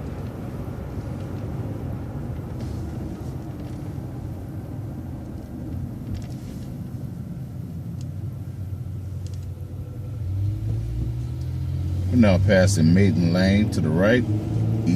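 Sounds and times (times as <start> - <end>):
bus engine and road noise: 0.0 - 14.9.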